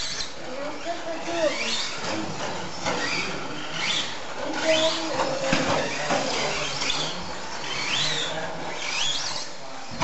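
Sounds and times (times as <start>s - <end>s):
rc truck motors whining: 0.0s - 10.0s.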